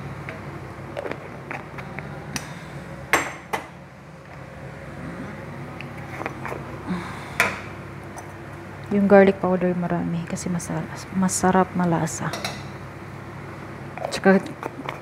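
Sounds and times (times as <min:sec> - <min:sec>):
kitchen exhaust fan humming: 0:00.0 - 0:15.0.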